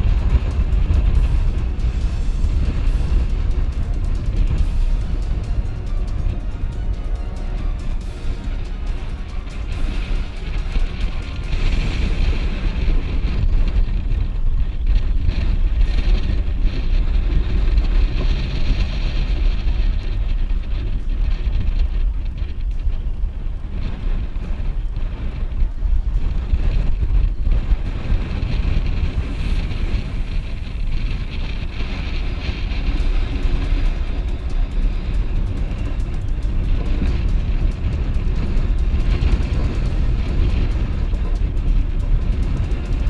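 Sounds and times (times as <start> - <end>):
wind on microphone: 0.0 - 43.0.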